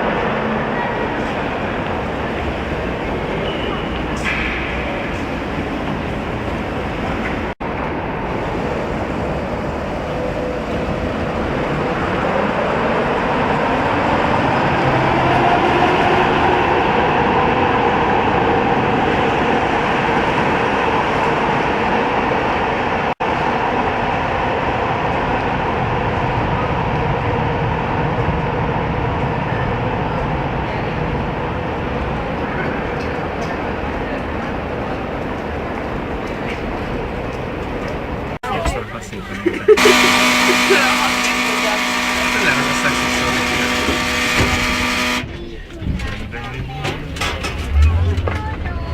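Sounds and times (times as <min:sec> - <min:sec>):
tram rumbling along rails: 0:00.0 - 0:48.9.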